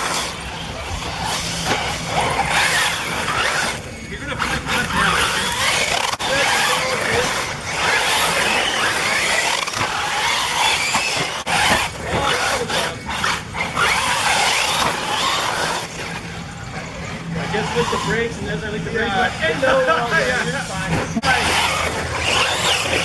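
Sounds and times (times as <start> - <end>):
rc buggy motors whining: 0.0 - 23.0.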